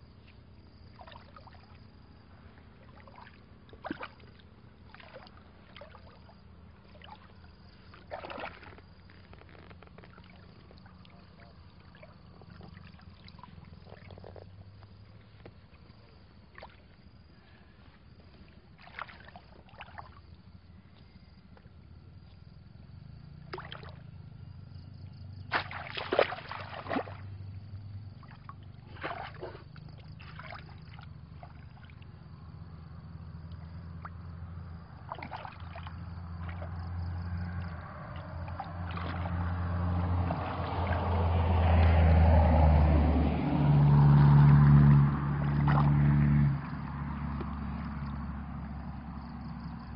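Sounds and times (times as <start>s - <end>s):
motor engine low hum: 0.0s - 49.9s
water splashing and sloshing: 0.0s - 49.9s.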